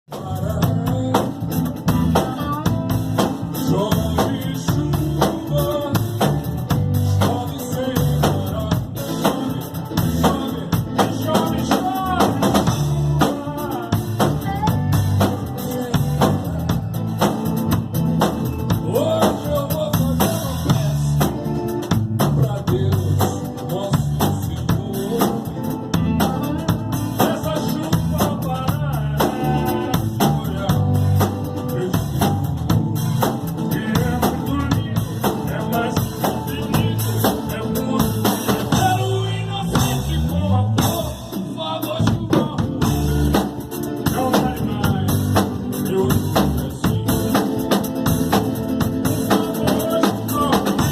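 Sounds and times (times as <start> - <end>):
band playing live: 0.0 - 50.9
drum kit beat: 0.0 - 50.9.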